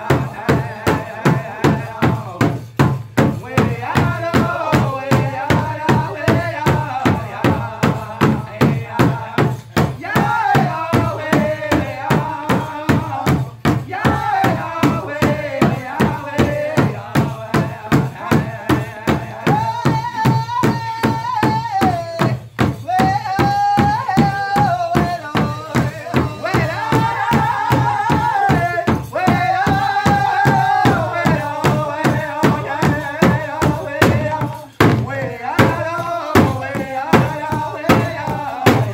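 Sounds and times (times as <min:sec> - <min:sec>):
group singing chant in unison: 0:00.0 - 0:22.1, 0:23.0 - 0:38.9
large drum steady beat: 0:00.0 - 0:38.9.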